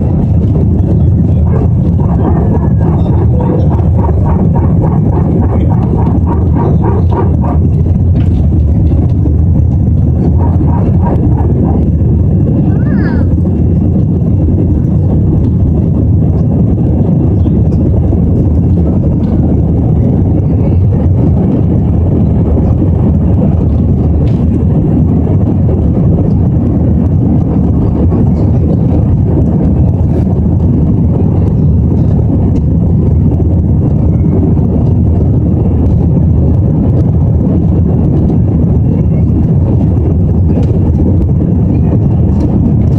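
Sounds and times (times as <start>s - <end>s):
jet engine rumble in cabin: 0.0s - 42.9s
rushing airflow: 0.0s - 42.9s.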